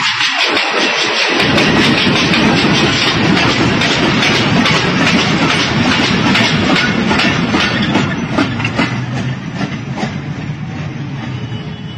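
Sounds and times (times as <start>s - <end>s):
freight train wheels clattering: 0.0s - 11.9s.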